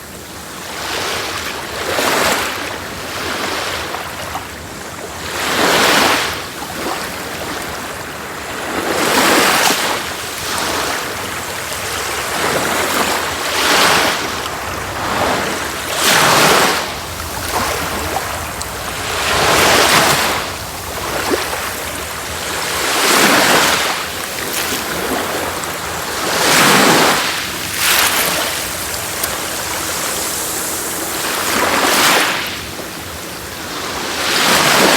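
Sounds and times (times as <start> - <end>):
sea waves breaking on shore: 0.0 - 34.9.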